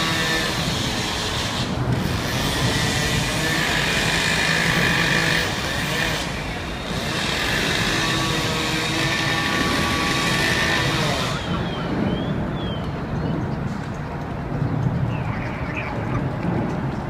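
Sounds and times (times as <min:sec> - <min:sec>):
fire engines running: 0:00.0 - 0:17.0.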